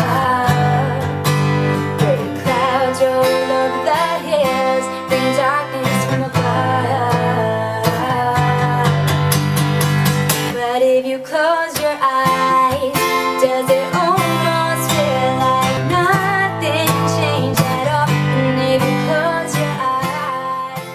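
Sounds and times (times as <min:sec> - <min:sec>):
person singing: 0:00.0 - 0:20.9
strummed acoustic guitar: 0:00.0 - 0:20.9.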